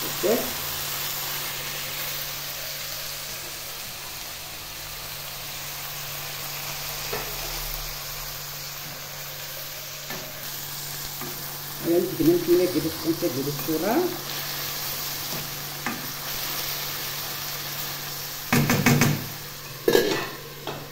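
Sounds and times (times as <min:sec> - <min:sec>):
vegetables sizzling in a pot: 0:00.0 - 0:20.9.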